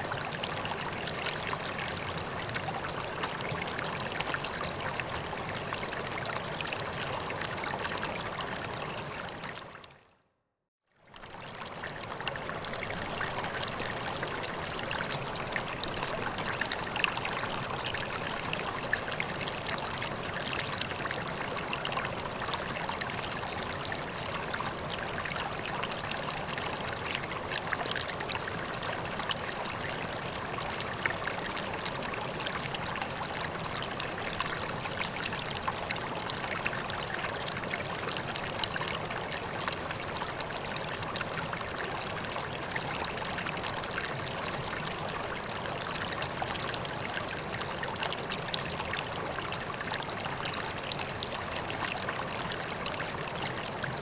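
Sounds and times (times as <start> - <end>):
pond water trickling and splashing: 0.0 - 10.1, 11.0 - 54.0.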